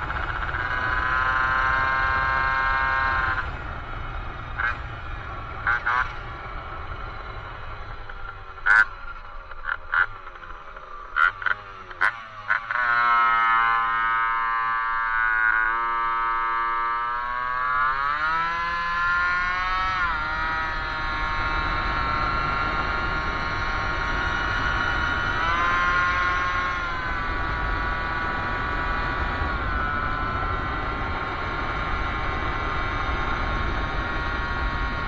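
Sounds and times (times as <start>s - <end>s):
moped engine buzzing: 0.0s - 35.0s.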